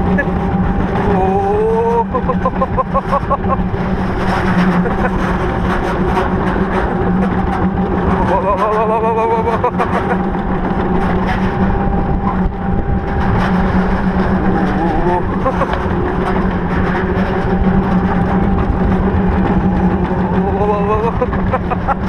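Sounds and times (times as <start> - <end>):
coaster car rumbling on track: 0.0 - 22.0
constant hum: 0.0 - 22.0.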